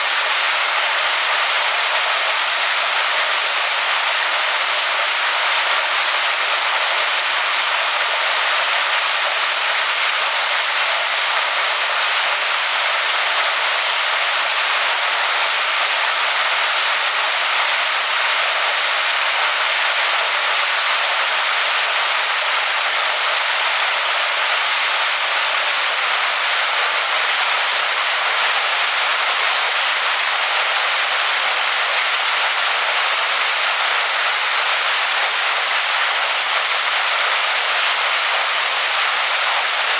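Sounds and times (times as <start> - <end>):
waterfall rushing onto rocks: 0.0 - 39.9.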